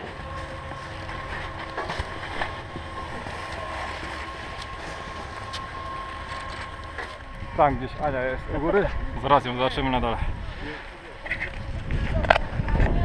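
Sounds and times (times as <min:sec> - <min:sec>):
faint high whine: 0:00.0 - 0:11.8
ski lift mechanical rumble: 0:00.0 - 0:13.0
wind on microphone: 0:00.0 - 0:13.0.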